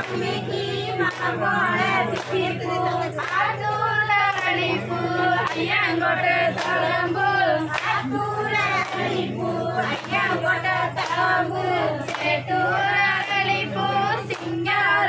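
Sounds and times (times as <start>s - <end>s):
hand claps: 0.0s - 3.6s, 4.2s - 4.7s, 5.4s - 8.1s, 8.7s - 14.8s
group singing in chorus: 0.0s - 15.0s.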